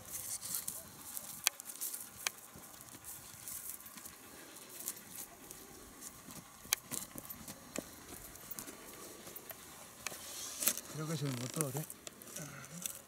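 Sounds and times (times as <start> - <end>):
faint rustling: 0.0 - 13.0.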